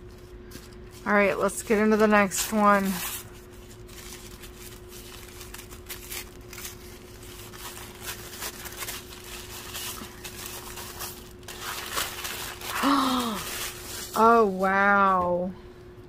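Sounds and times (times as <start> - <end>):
tissue paper rustling: 0.0 - 15.5
faint steady hum: 0.0 - 16.0.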